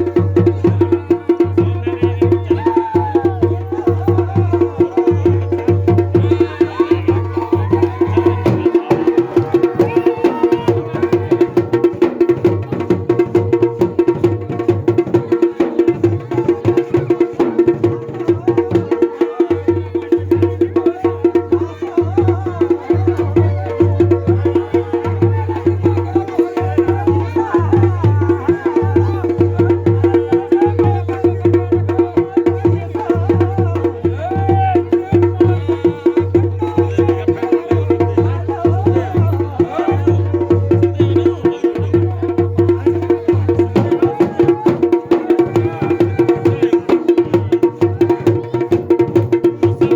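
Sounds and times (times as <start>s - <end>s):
drums playing fast rhythm: 0.0s - 49.9s.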